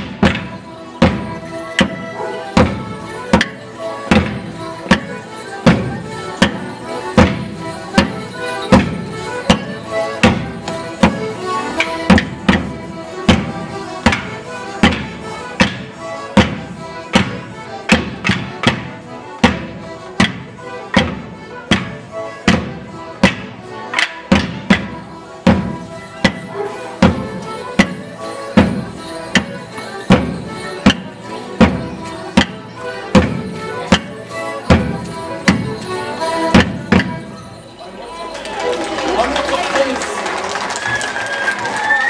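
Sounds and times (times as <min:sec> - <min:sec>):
steady beat of sharp strikes: 0:00.0 - 0:37.6.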